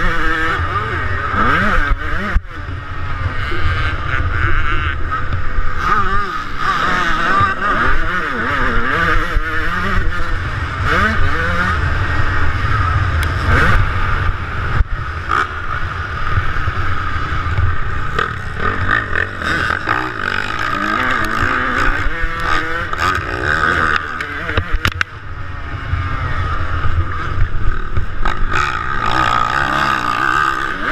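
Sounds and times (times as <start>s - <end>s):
motocross bike engine revving: 0.0s - 30.9s.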